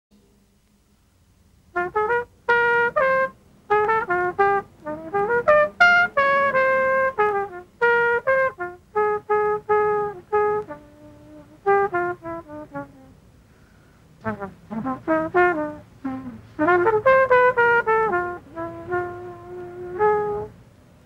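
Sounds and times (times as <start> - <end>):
jazz trumpet melody: 1.7 - 13.3, 14.2 - 20.7.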